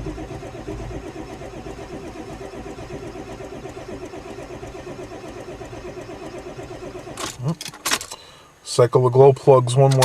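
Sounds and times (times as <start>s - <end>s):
starter cranking diesel engine: 0.0s - 8.4s.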